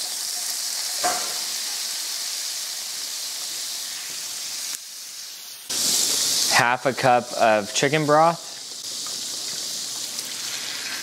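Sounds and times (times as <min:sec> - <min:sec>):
sizzling in a skillet: 0:00.0 - 0:11.0.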